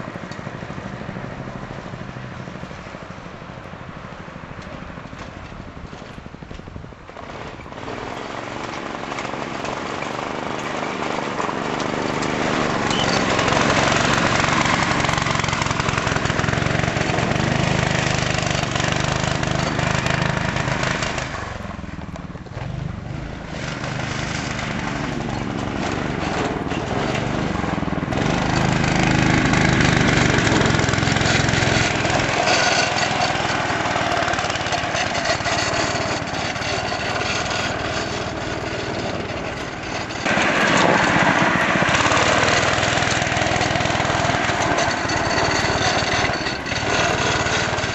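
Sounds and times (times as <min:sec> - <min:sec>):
go-kart engine running: 0:00.0 - 0:47.9.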